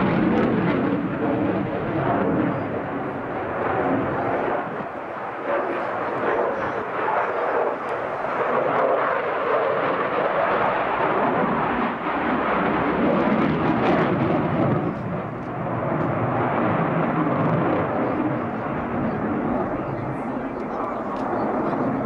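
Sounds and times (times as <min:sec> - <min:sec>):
jet fighter flying overhead: 0:00.0 - 0:22.0.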